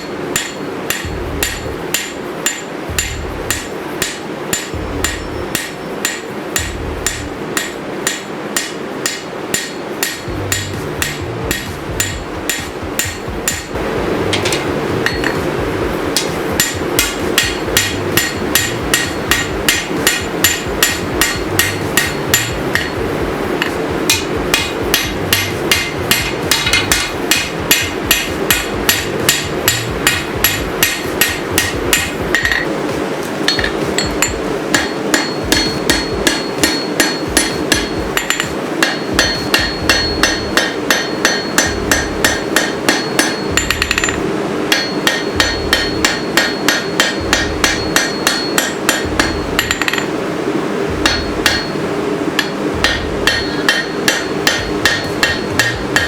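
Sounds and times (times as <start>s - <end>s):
hammer striking steel: 0.0s - 50.2s, 50.9s - 56.0s
steady rushing noise: 0.0s - 56.0s.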